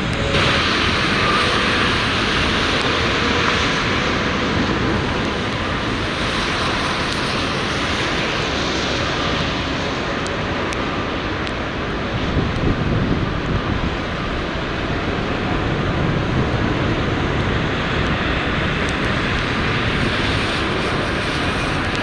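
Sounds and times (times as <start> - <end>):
jet engines running loud: 0.0 - 22.0
wind rumbling on microphone: 0.0 - 22.0.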